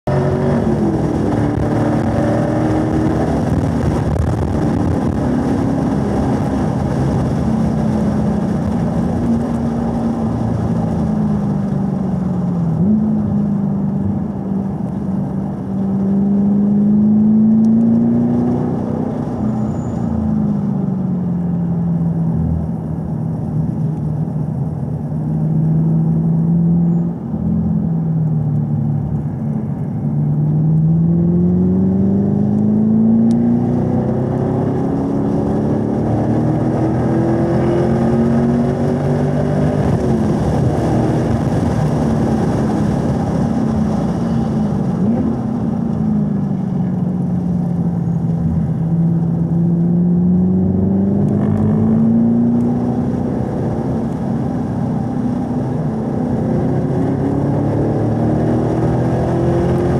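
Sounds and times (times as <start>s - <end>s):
car engine revving: 0.0s - 59.9s
wind and road noise: 0.0s - 59.9s.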